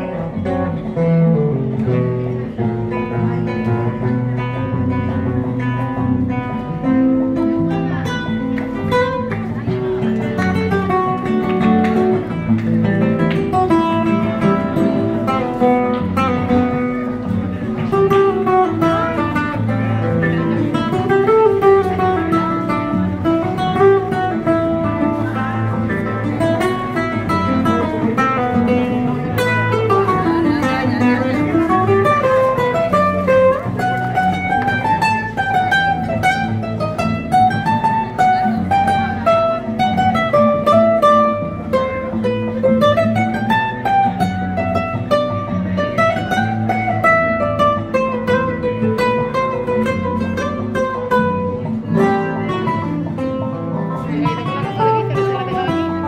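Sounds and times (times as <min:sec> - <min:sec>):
fingerpicked classical guitar: 0:00.0 - 0:56.0.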